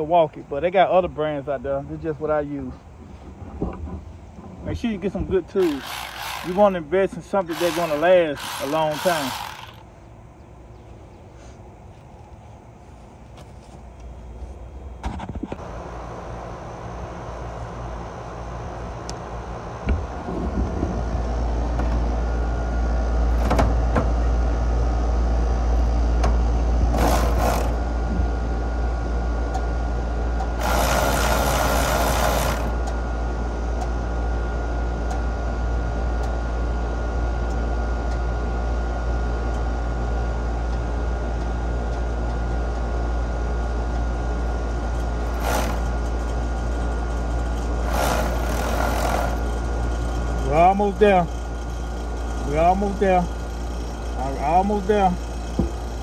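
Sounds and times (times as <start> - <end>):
air conditioner unit humming: 0.0 - 56.0.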